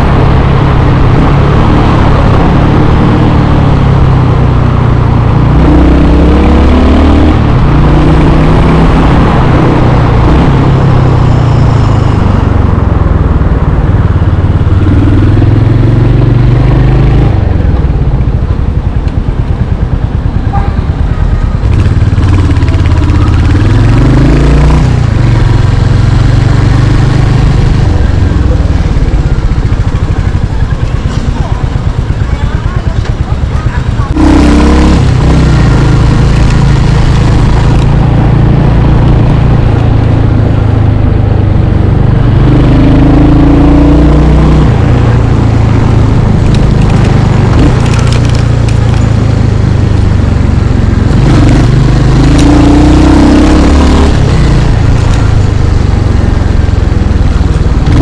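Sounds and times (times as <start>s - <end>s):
motorcycle engine shifting gears: 0.0s - 58.0s.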